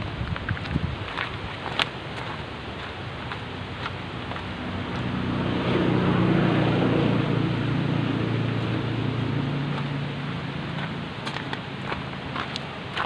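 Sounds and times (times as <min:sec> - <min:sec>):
vehicle engine passing by: 0:02.4 - 0:13.0.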